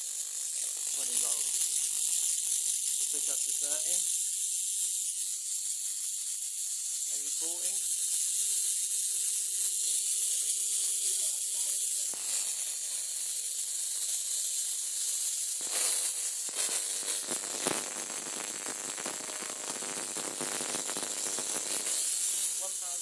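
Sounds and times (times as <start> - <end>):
electric arc hissing and crackling: 0.0 - 23.0
sharp electric snap: 0.0 - 23.0.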